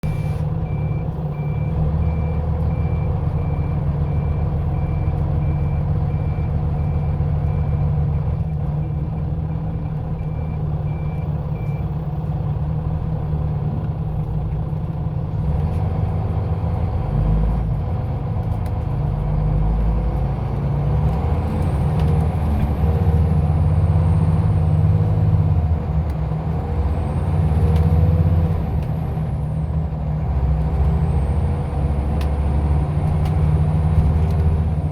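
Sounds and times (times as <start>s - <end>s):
bus engine hum: 0.0s - 34.9s.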